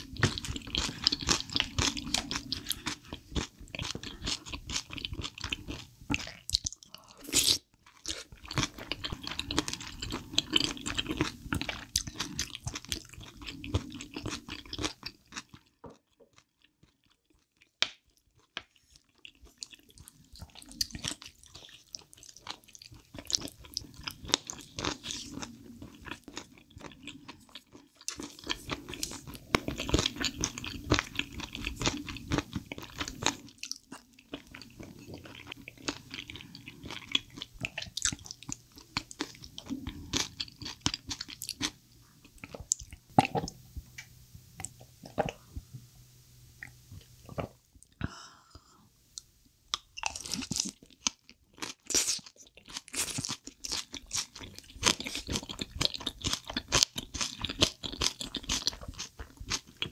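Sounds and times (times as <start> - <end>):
person chewing wet crunchy food: 0.0 - 45.7, 46.6 - 59.9.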